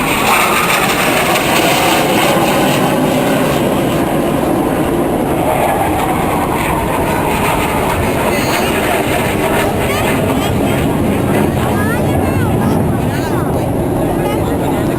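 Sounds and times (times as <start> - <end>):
plane flying over: 0.0 - 14.9.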